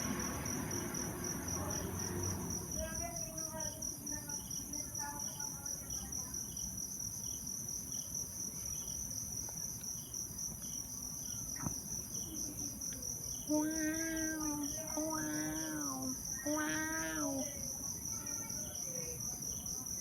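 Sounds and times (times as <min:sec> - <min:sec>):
faint insect chirp: 0:00.0 - 0:20.0
insects trilling: 0:00.0 - 0:20.0.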